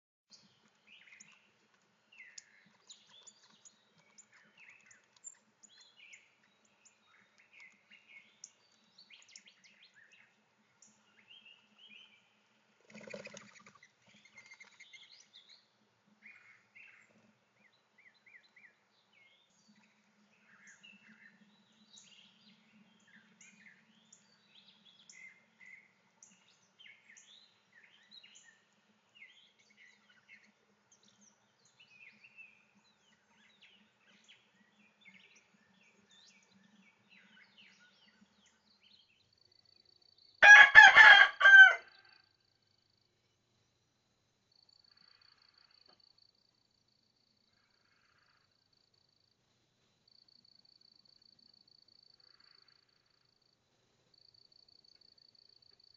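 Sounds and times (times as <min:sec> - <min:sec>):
songbirds chirping and trilling: 0:00.3 - 0:55.9.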